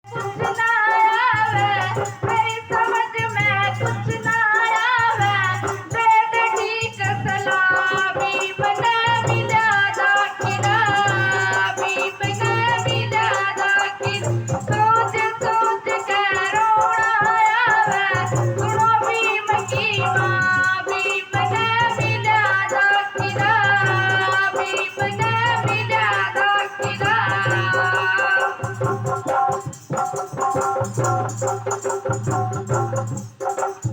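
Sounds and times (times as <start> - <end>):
person singing: 0.0 - 33.9
quick percussion: 0.0 - 33.9
shaker rattle: 0.1 - 33.9.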